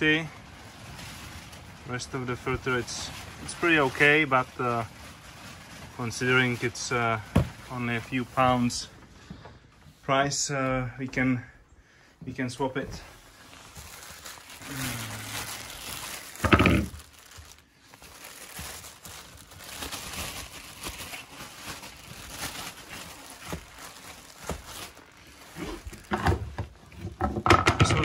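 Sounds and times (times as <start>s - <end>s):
plastic bag crinkling: 0.0s - 9.0s, 12.8s - 27.2s.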